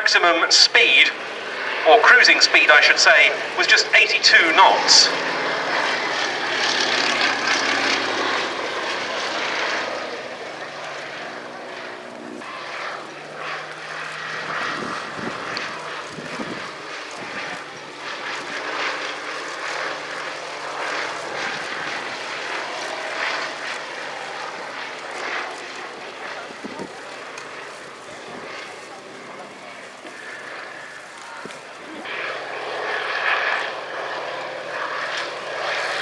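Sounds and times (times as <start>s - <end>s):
plane engine flying past: 0.0s - 36.0s.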